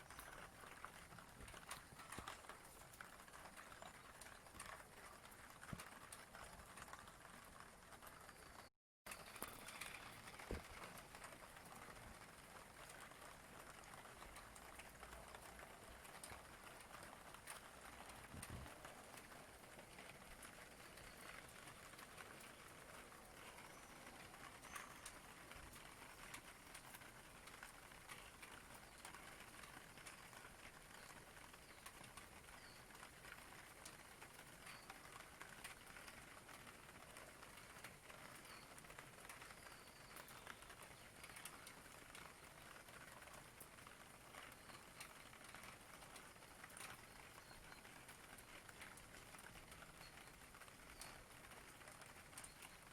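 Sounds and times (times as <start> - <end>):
faint steady rain: 0.0 - 52.9.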